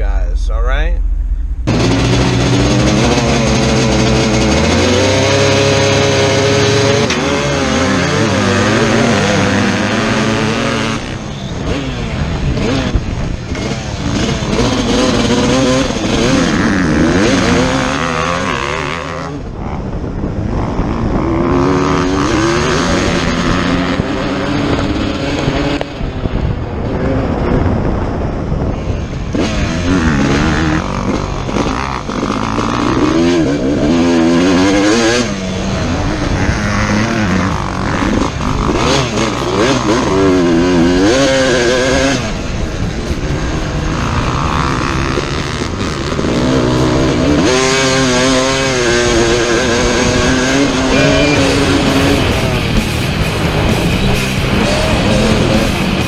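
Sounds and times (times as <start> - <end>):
dirt bike engine revving: 1.3 - 28.2, 29.1 - 56.0.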